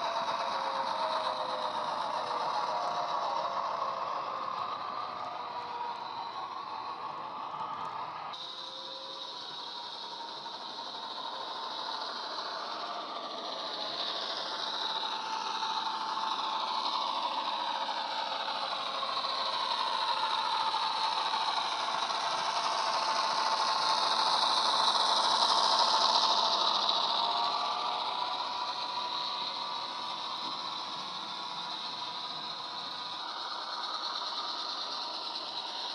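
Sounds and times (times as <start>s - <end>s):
model diesel engine sound: 0.0s - 35.9s
model train wheels rattling: 0.0s - 35.9s.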